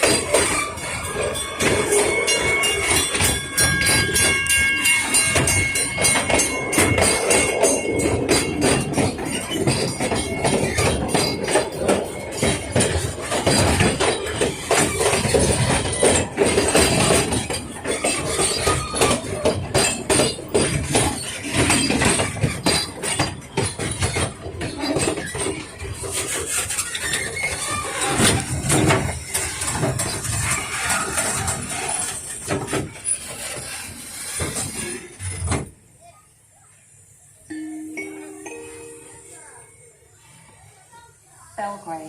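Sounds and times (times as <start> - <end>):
train wheels squealing: 0.0 - 35.5
steam train wheels clattering: 0.0 - 36.1.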